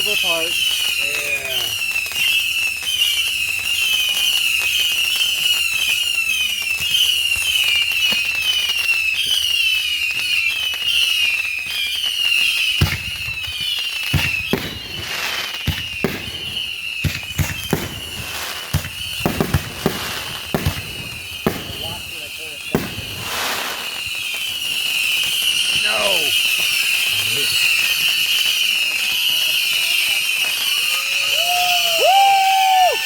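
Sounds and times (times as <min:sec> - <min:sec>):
firework bangs: 0:00.0 - 0:33.0
whistling fireworks shrieking: 0:00.0 - 0:33.0.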